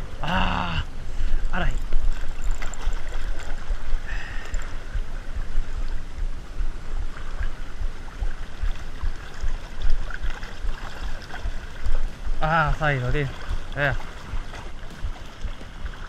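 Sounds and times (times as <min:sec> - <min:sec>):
wind buffeting microphone: 0:00.0 - 0:16.0
sea water lapping on rocks: 0:01.2 - 0:06.1, 0:07.1 - 0:16.0.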